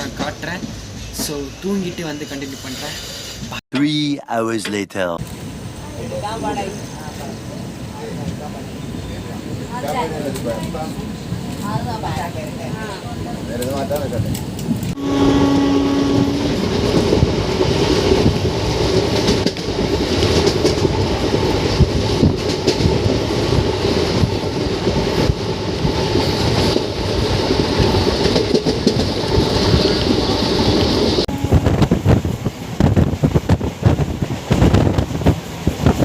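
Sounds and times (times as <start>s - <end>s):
train rumbling on tracks: 0.0s - 3.6s, 5.2s - 36.0s.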